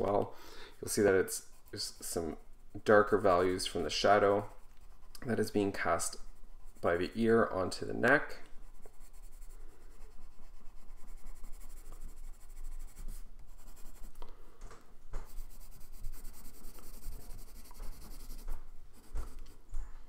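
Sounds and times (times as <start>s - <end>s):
pencil shading on paper: 0.8s - 7.3s, 8.6s - 14.2s, 15.2s - 19.5s.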